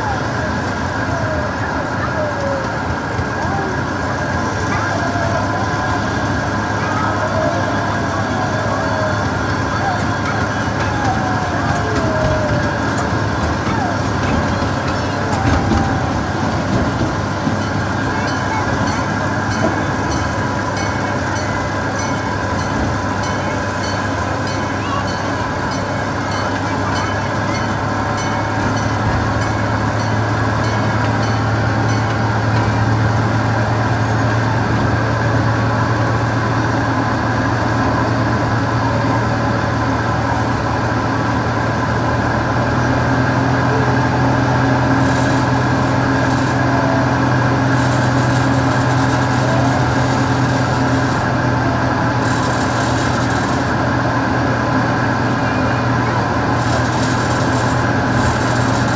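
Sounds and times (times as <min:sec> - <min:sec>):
miniature train engine drone: 0:00.0 - 0:58.9
train rolling noise: 0:00.0 - 0:58.9.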